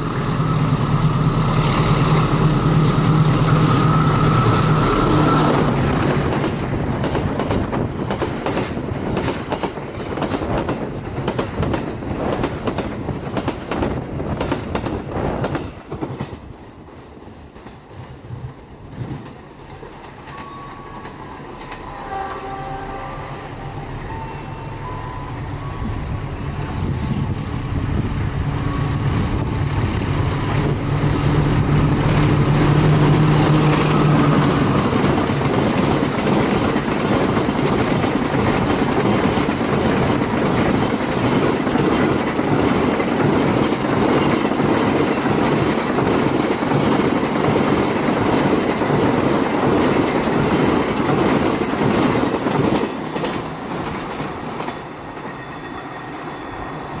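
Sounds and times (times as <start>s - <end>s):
train wheels clattering on rails: 0.0s - 22.0s, 25.7s - 57.0s
low train engine drone: 0.0s - 57.0s.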